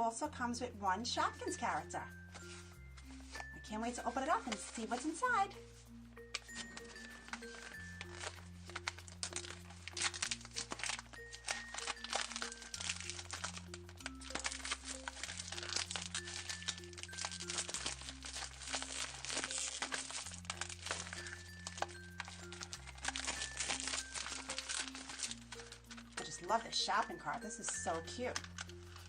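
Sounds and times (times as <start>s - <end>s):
packaging crinkling and tearing: 2.3s - 29.0s.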